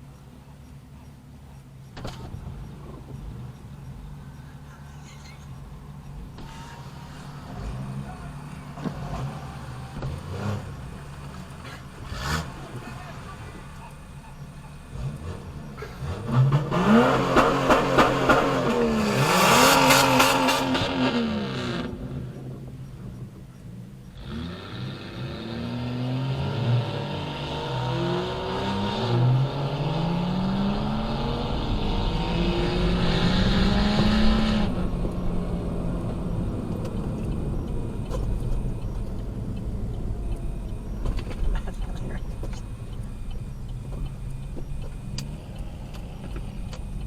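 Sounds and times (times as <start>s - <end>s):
car engines accelerating: 0.0s - 47.0s.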